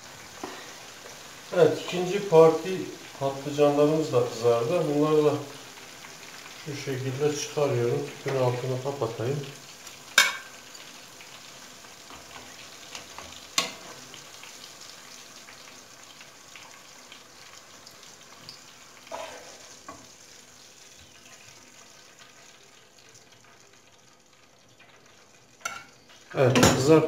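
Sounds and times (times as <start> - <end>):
eggplant sizzling in oil: 0.0 - 27.0.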